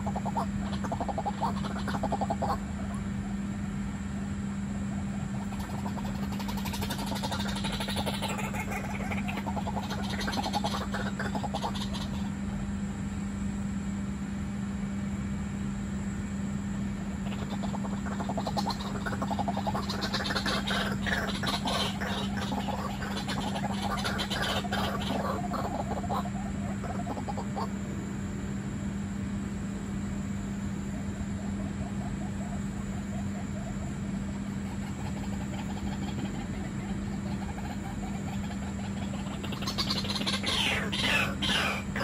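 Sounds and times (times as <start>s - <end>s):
birds making rattling croaks: 0.0s - 13.2s, 16.9s - 27.9s, 28.6s - 42.0s
steady low hum: 0.0s - 42.0s.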